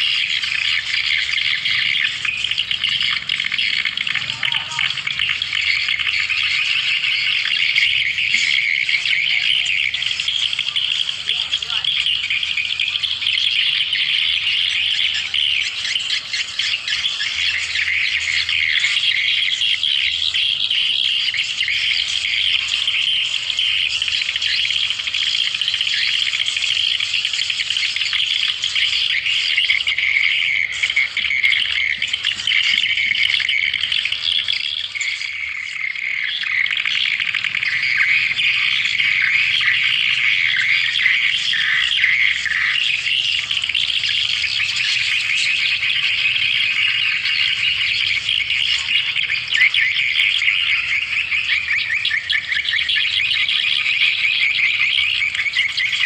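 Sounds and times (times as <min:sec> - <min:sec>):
swiftlet chirps and twitters: 0:00.0 - 0:56.0.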